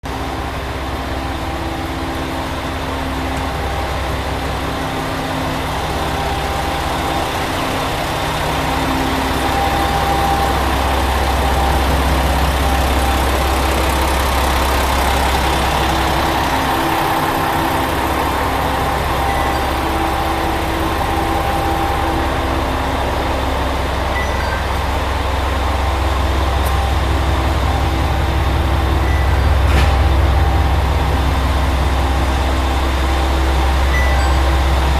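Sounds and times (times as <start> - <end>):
diesel engines idling: 0.0 - 34.9.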